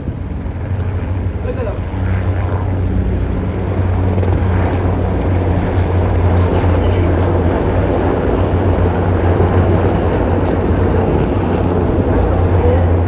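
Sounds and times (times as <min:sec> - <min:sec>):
helicopters flying overhead: 0:00.0 - 0:13.0.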